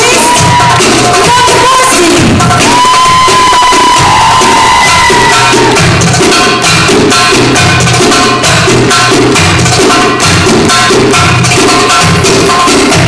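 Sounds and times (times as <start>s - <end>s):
belly-dance music over a stage pa: 0.0s - 13.0s
fast percussion rhythm: 0.0s - 13.0s.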